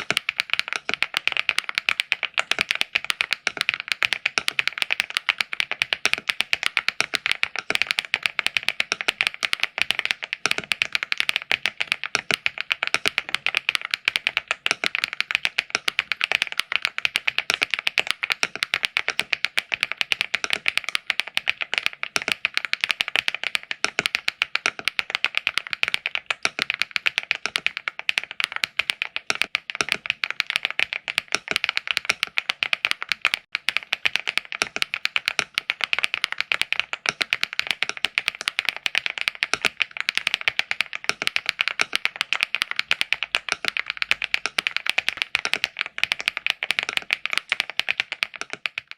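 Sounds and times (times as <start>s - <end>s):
fast typing on mechanical keyboard: 0.0s - 48.9s.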